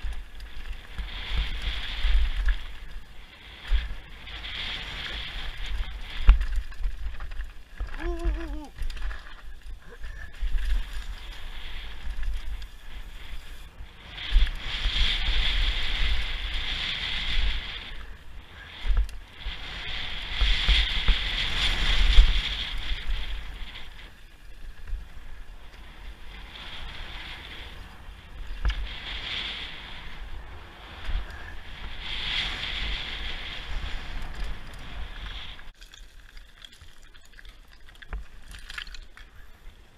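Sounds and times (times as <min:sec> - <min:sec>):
wind rushing over microphone: 0:00.0 - 0:35.8.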